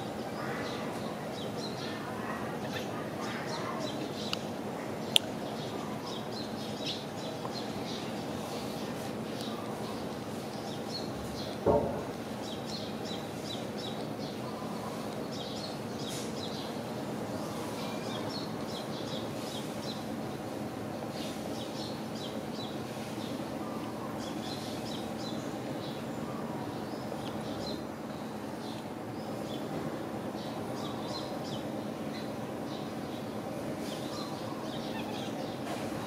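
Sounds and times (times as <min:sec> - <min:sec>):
outdoor background noise: 0:00.0 - 0:36.0
small birds chirping: 0:00.0 - 0:36.0.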